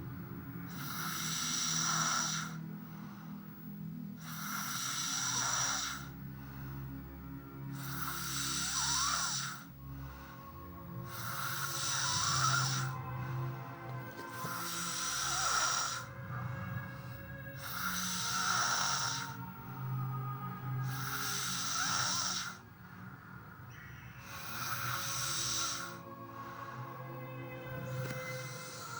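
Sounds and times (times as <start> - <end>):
person snoring: 0.7 - 2.6, 4.2 - 6.2, 7.7 - 28.9.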